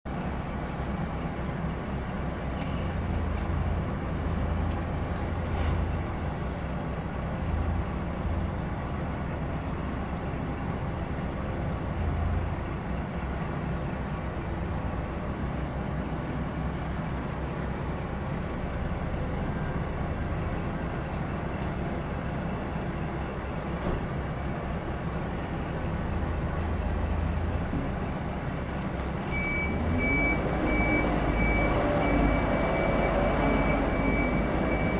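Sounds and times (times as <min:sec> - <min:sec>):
tractor diesel engine running: 0:00.1 - 0:34.9
truck diesel engine running: 0:00.1 - 0:34.9.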